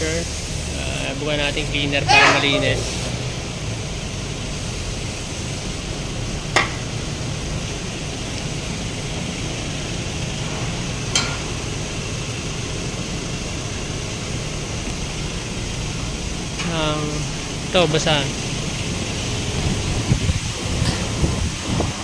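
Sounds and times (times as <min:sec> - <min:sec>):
workshop background hiss: 0:00.0 - 0:22.0.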